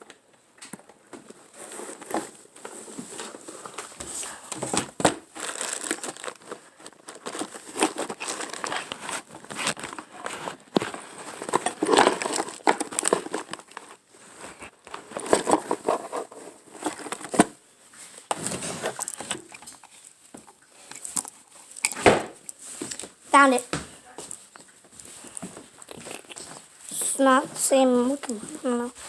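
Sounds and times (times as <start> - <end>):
rummaging through things: 0.0 - 29.0.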